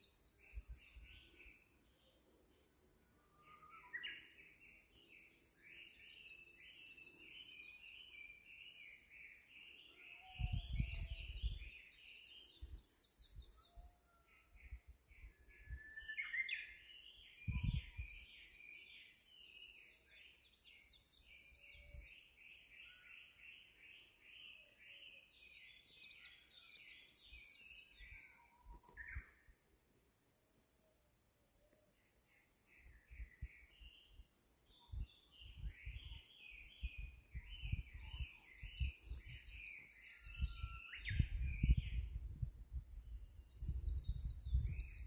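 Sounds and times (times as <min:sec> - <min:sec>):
small birds chirping: 0:00.0 - 0:29.8, 0:31.0 - 0:45.0.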